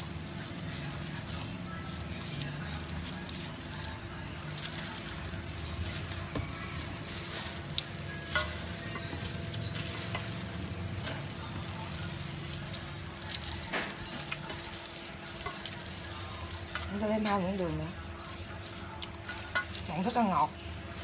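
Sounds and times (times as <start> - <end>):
dry tofu skin rustling in bowl: 0.0 - 21.0.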